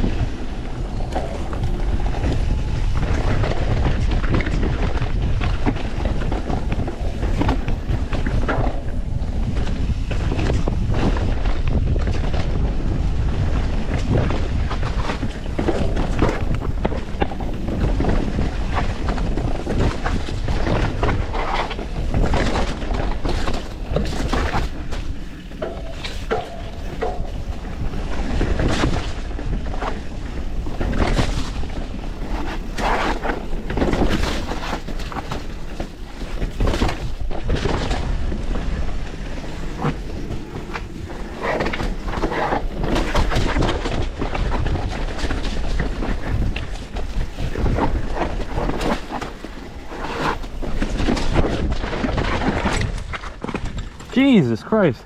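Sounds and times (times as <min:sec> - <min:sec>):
bike knocking and rattling: 0:00.0 - 0:54.1
wind on microphone: 0:00.0 - 0:54.1
bike tyres rumbling over rocks: 0:00.0 - 0:54.2.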